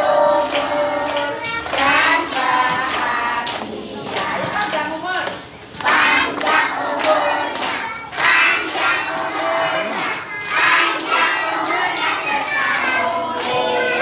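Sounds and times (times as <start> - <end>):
children singing in unison: 0.0 - 4.6, 5.8 - 14.0
hand clapping: 0.0 - 14.0.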